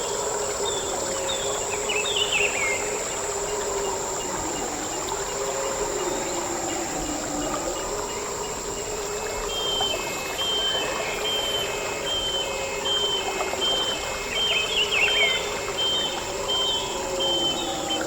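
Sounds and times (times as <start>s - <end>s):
high insect drone: 0.0s - 18.0s
running water: 0.0s - 18.0s.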